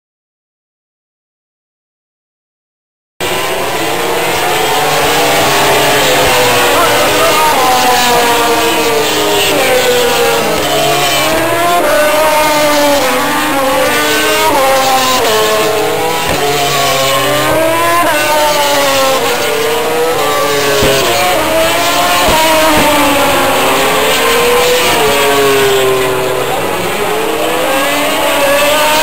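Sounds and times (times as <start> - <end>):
racing motorcycles passing: 3.2 - 29.0.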